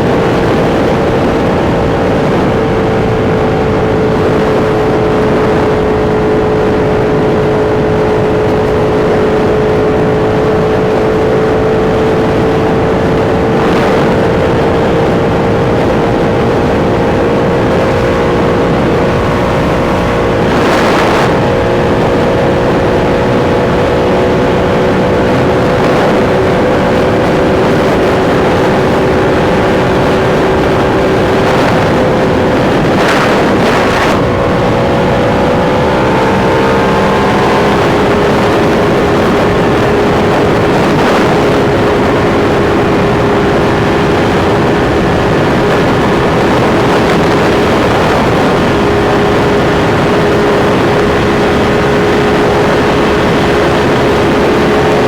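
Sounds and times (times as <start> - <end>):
motorcycle engine cruising: 0.0 - 55.0
wind rushing on microphone: 0.0 - 55.0.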